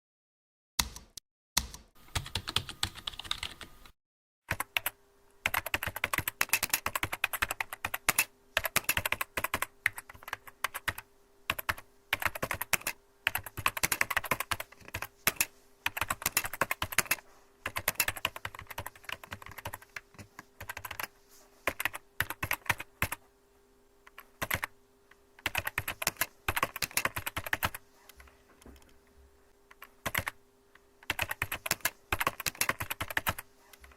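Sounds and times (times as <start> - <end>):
keyboard typing: 0.8 - 23.2, 24.1 - 24.7, 25.4 - 28.9, 29.7 - 30.4, 31.0 - 33.9
faint steady hum: 4.5 - 33.9.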